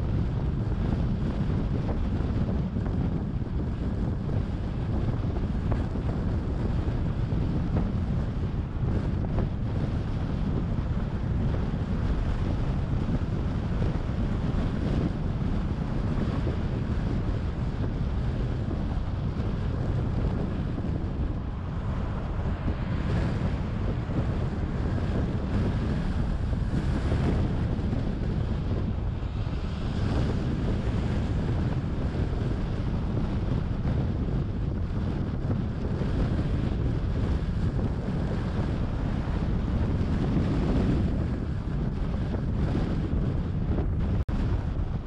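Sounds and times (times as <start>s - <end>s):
car road noise: 0.0s - 45.0s
wind on microphone: 0.0s - 45.0s.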